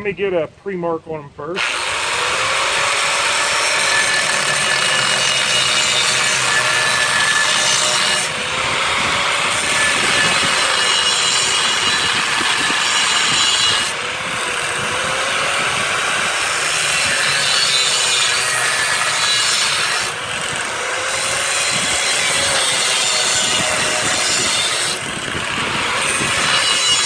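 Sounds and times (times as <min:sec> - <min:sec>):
grinder disc cutting steel: 0:01.5 - 0:27.0.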